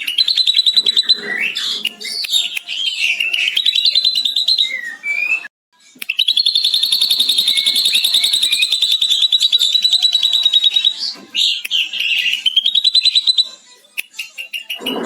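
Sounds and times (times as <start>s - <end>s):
bird singing with trills: 0.0s - 15.0s.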